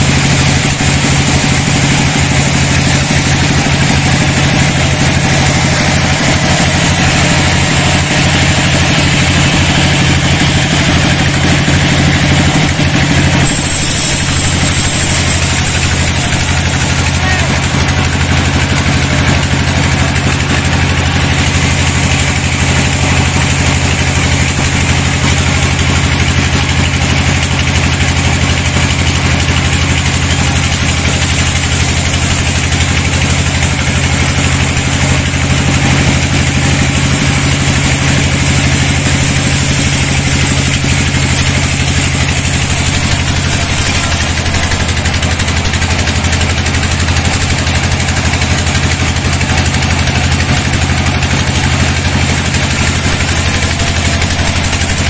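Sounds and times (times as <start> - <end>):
machine hum: 0.0 - 26.4, 28.8 - 55.0
saw blade cutting wood: 0.0 - 55.0.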